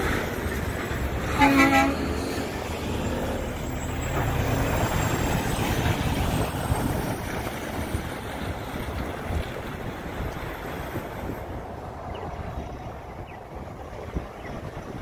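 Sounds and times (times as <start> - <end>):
truck diesel engine driving past: 0.0 - 14.2.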